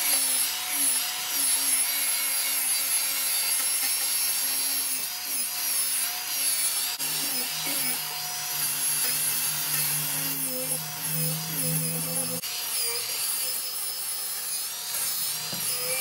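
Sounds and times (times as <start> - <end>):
angle grinder motor whine: 0.0 - 16.0
sanding disc hissing on wood: 0.0 - 16.0.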